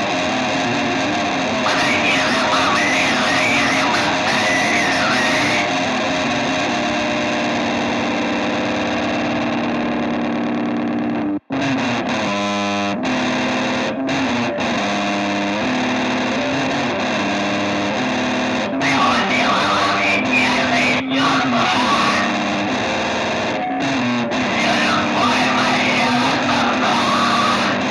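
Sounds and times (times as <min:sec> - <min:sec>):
distorted electric guitar: 0:00.0 - 0:27.9.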